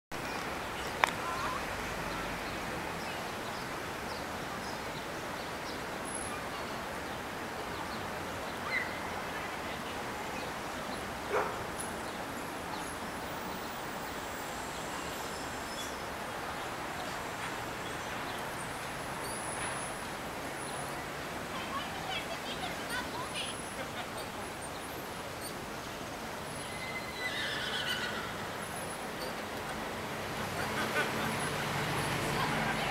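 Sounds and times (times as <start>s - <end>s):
outdoor ambience hiss: 0.1s - 32.9s.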